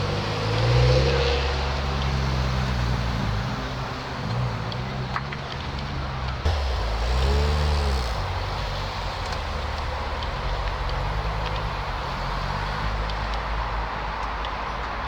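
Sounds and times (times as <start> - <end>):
car engine revving and rumbling: 0.0 - 15.0.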